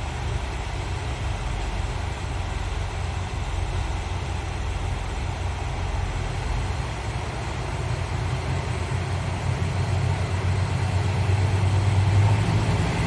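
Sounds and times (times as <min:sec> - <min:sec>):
diesel railcar engines humming: 0:00.0 - 0:13.0.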